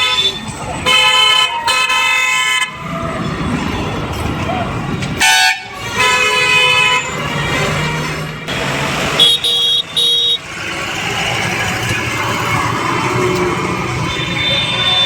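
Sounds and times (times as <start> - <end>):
vehicle horns: 0.0 - 3.0, 5.2 - 15.0
traffic engine and road noise: 0.0 - 15.0.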